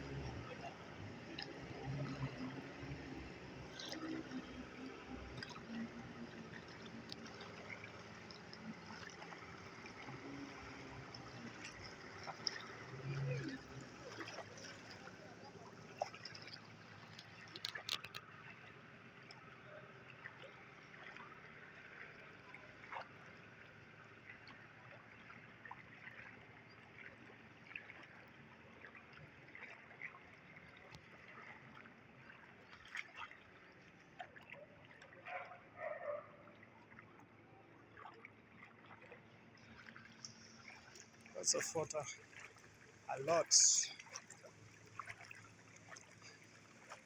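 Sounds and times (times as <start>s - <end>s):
floodwater sloshing and trickling: 0.0s - 47.0s
water splashes: 0.0s - 47.0s.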